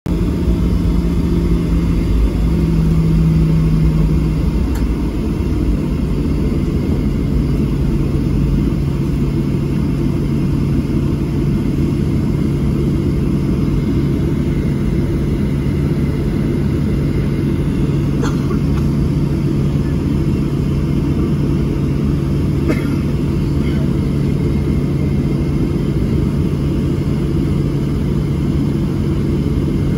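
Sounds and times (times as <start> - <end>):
jet engines idling rumble: 0.1 - 29.9
steady cabin hum: 0.1 - 29.9.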